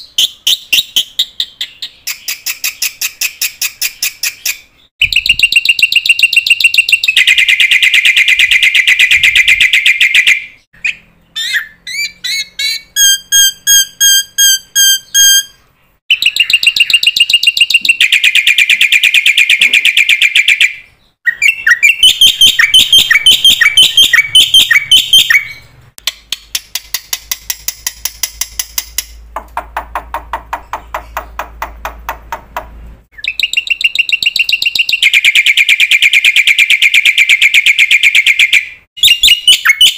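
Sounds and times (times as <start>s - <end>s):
high bird-like chirps and trills: 0.0s - 25.8s, 29.9s - 32.1s, 33.1s - 39.9s.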